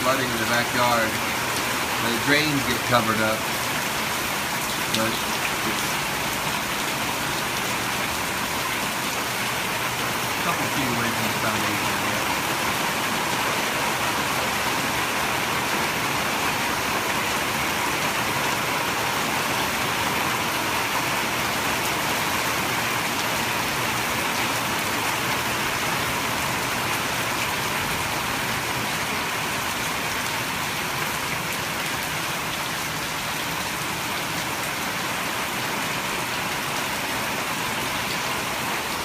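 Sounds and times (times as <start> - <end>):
rain falling steadily: 0.0 - 39.0.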